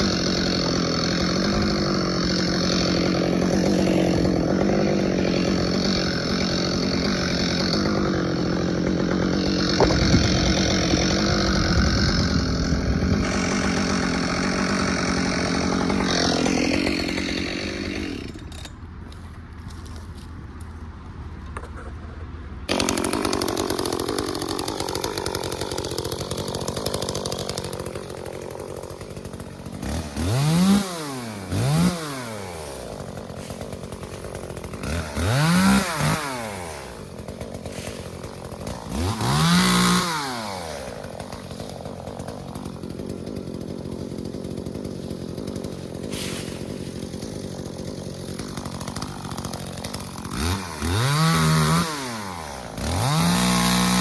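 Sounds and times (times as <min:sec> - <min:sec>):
chainsaw running and revving: 0:00.0 - 0:18.7, 0:22.7 - 0:54.0.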